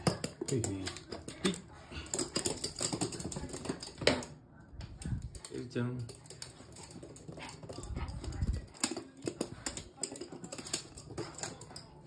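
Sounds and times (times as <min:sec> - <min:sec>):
dog claws clicking on hard floor: 0:00.0 - 0:12.0.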